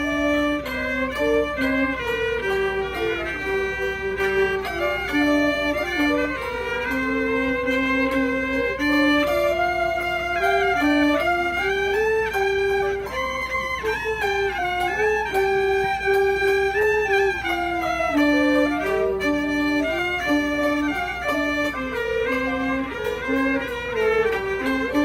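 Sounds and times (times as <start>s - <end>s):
two-string fiddle solo melody: 0.0s - 25.0s.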